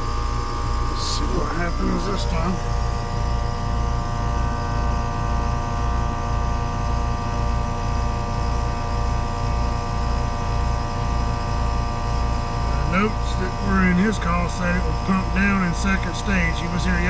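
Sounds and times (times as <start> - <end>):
heat pump humming: 0.0 - 17.0.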